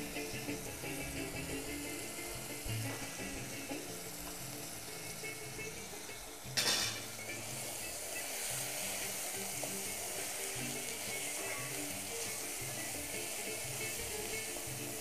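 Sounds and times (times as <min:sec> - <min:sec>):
meat and onion sizzling in pot: 0:00.0 - 0:15.0.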